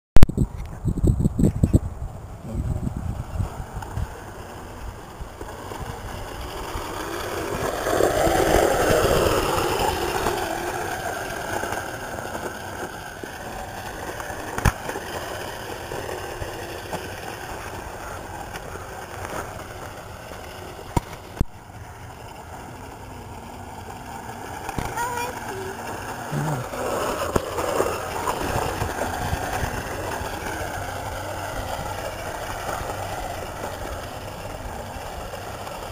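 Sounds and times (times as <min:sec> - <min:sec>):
electric scooter riding past: 0:00.4 - 0:35.9.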